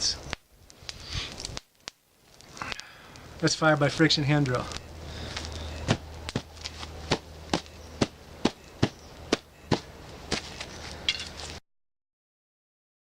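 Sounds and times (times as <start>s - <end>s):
sharp pops of fire: 0.0s - 10.8s
small fire crackling: 0.0s - 11.6s.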